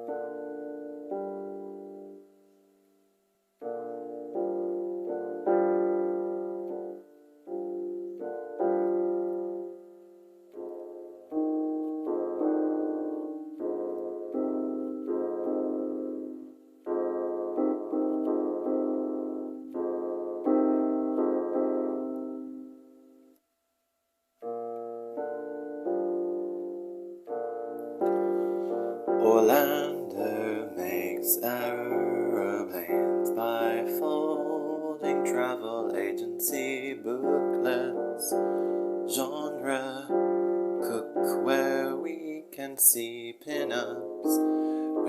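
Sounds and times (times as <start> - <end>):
slow piano chords: 0.0 - 23.4, 24.4 - 45.0.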